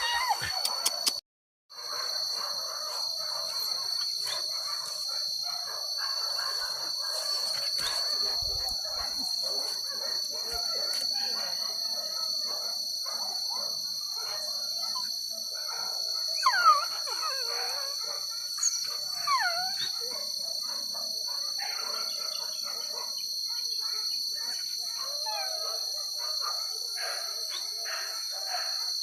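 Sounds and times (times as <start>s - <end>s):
dogs baying and yelping: 0.0s - 1.2s, 1.8s - 29.0s
high insect buzz: 1.8s - 29.0s.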